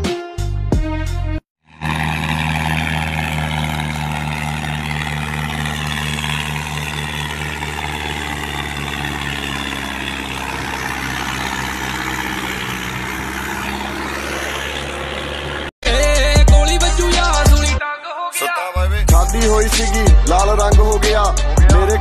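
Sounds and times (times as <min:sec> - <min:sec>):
tractor diesel engine running: 0:01.7 - 0:17.8, 0:19.1 - 0:22.0.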